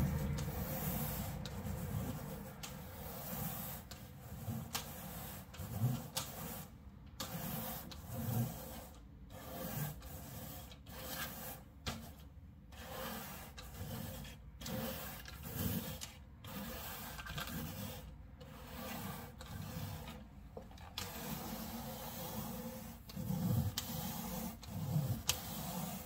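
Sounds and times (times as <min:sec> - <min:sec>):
bristle brush scrubbing rug: 0:00.0 - 0:26.0.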